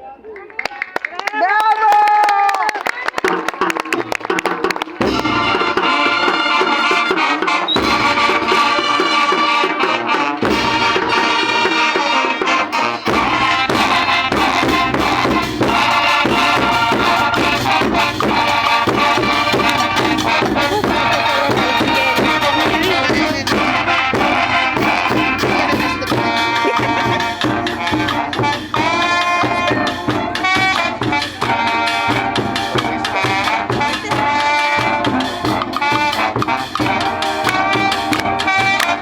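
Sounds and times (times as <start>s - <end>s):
band playing folk dance music: 2.9s - 39.0s.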